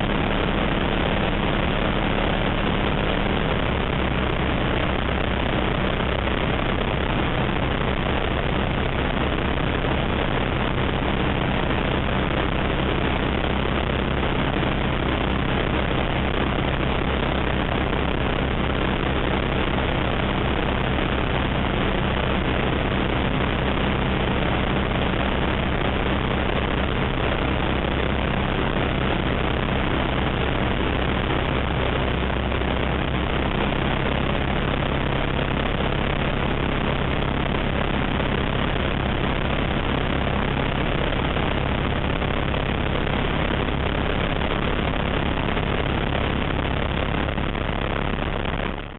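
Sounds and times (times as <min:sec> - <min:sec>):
ultralight engine and propeller drone: 0:00.0 - 0:48.9.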